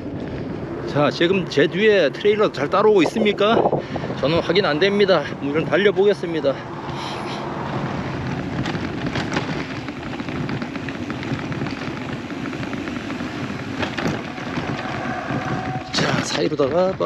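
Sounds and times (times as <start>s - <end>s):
tyres rolling on pavement: 0.0s - 17.0s
wind on microphone: 0.0s - 17.0s.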